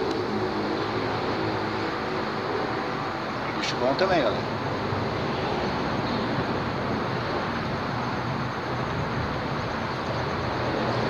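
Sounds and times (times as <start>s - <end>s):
traffic rumbling on bridge overhead: 0.0s - 11.0s.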